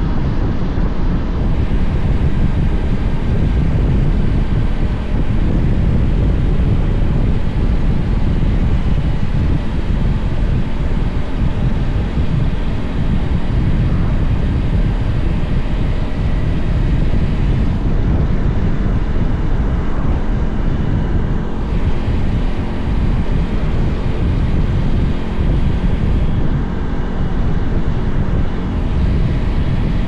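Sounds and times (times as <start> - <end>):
motorcycle engine: 0.0 - 30.0
road noise: 0.0 - 30.0
wind on microphone: 0.0 - 30.0.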